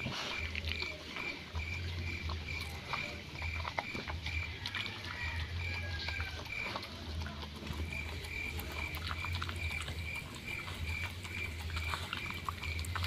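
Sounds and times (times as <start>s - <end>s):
puppy chewing and licking: 0.0s - 13.0s.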